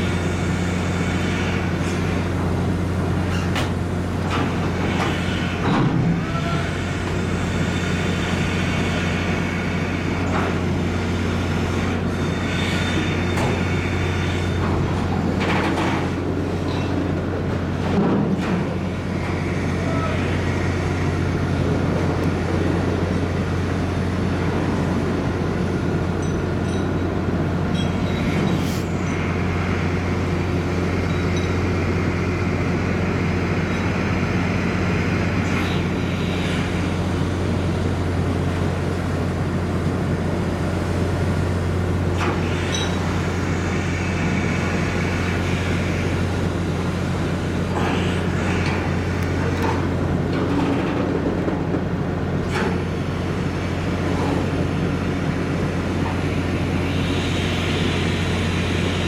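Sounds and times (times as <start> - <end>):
ship machinery drone: 0.0 - 59.0.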